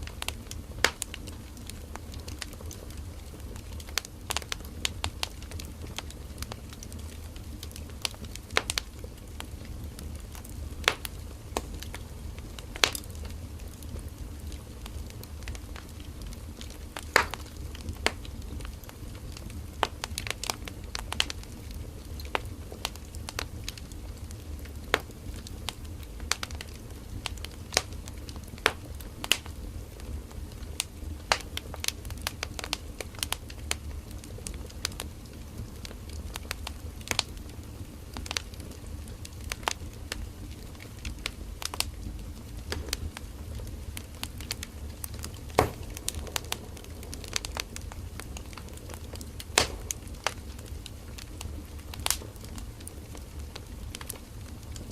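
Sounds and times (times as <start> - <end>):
campfire crackling and popping: 0.0 - 54.9
low rumble of flames: 0.0 - 54.9.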